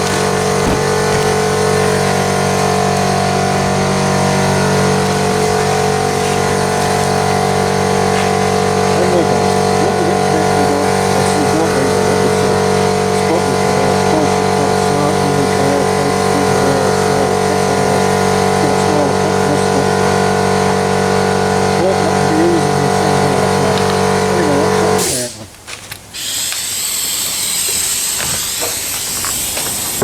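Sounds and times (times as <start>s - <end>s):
air compressor humming: 0.0s - 25.5s, 26.1s - 30.0s.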